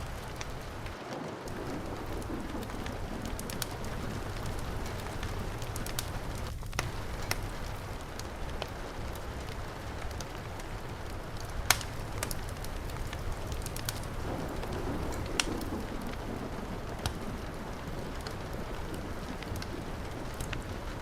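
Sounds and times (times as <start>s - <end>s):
fireplace fire crackling: 0.0s - 21.0s
heavy rain: 0.0s - 21.0s.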